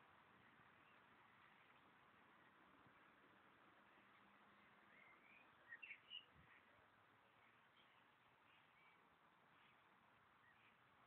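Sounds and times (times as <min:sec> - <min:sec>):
faint outdoor hiss: 0:00.0 - 0:11.0
faint bird chirps: 0:00.3 - 0:02.6, 0:03.8 - 0:11.0.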